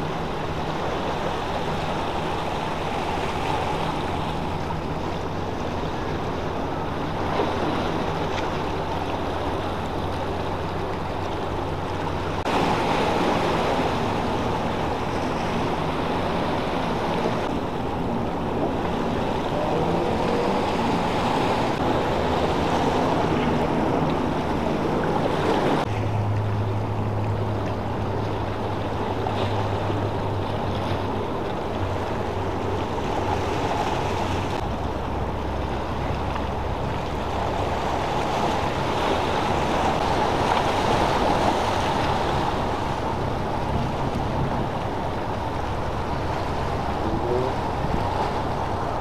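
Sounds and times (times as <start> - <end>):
motor boat engines droning: 0.0 - 49.0
water noise: 0.0 - 49.0
wind: 0.0 - 49.0.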